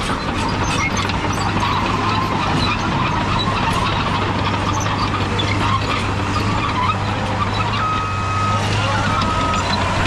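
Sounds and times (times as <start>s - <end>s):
diesel engine droning: 0.0s - 10.0s
light squeaks: 0.2s - 10.0s.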